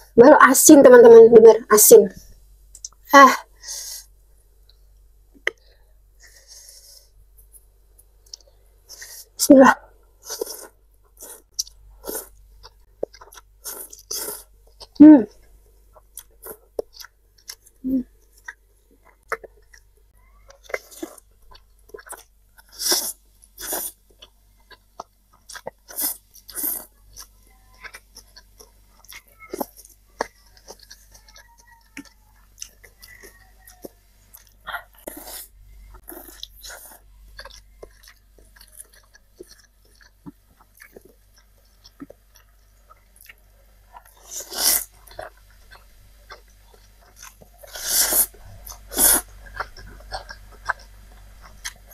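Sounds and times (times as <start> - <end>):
person chewing noodles: 5.4 - 9.4, 10.1 - 51.9.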